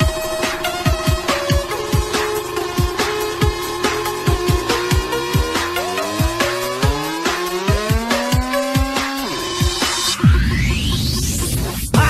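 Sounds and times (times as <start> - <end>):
held synth notes: 0.0 - 11.0
electronic dance music: 0.0 - 12.0.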